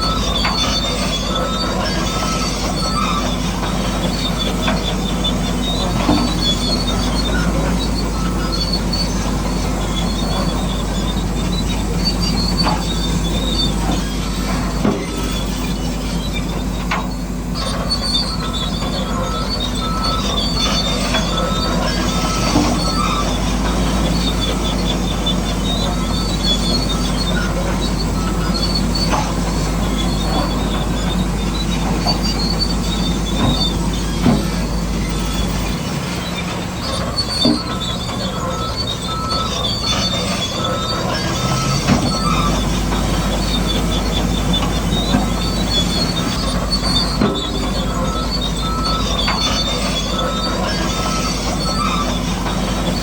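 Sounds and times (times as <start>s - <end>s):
high metallic squealing: 0.0s - 53.0s
machinery engine drone: 0.0s - 53.0s.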